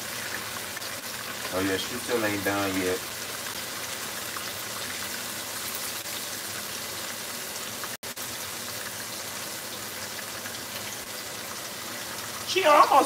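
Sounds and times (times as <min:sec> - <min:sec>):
pork chops sizzling in grease: 0:00.0 - 0:13.0.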